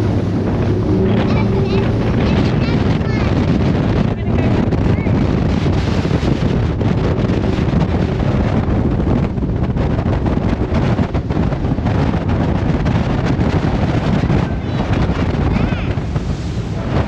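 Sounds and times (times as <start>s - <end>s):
boat engine: 0.0s - 17.0s
water noise: 0.0s - 17.0s
wind buffeting microphone: 0.0s - 17.0s.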